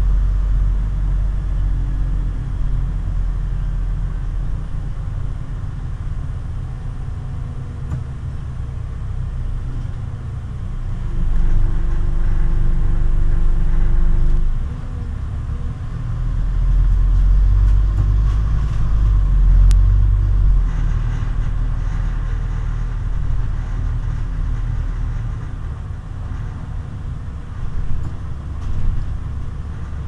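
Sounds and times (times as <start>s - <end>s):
bus engine rumble: 0.0s - 30.0s
steady whine: 0.0s - 30.0s.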